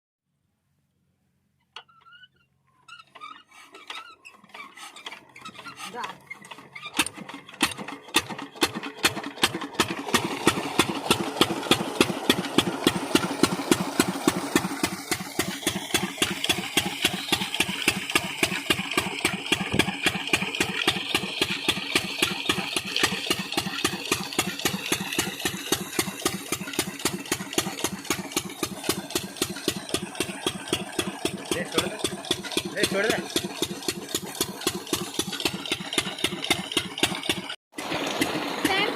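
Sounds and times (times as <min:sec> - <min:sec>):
diesel engine starting and idling: 0:03.3 - 0:38.9.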